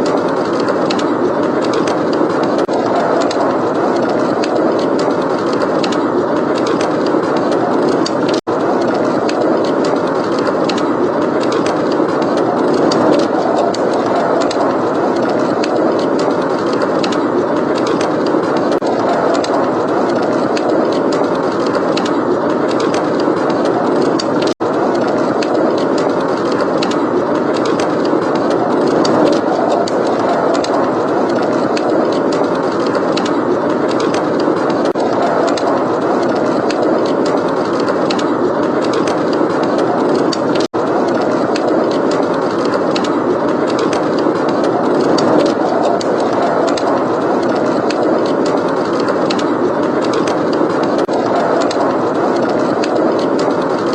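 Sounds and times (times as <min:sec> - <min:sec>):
blizzard wind blowing: 0:00.0 - 0:53.9
wood fire crackling: 0:00.0 - 0:53.9.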